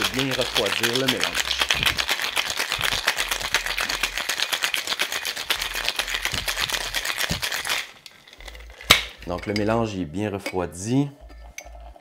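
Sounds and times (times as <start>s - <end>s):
ice rattling in cocktail shaker: 0.0s - 9.8s.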